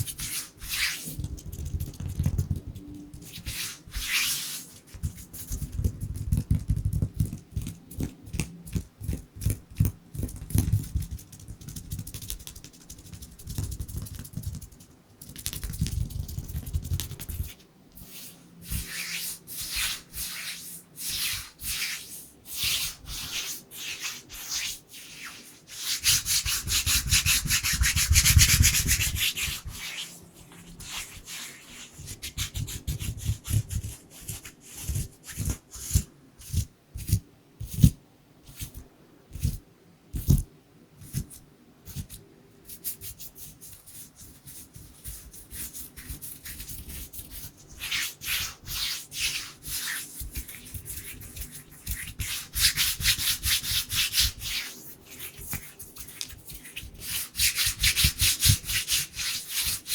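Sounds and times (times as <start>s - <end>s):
dry hands rubbing together: 0.0s - 2.5s, 3.2s - 5.8s, 10.3s - 35.6s, 42.0s - 59.9s.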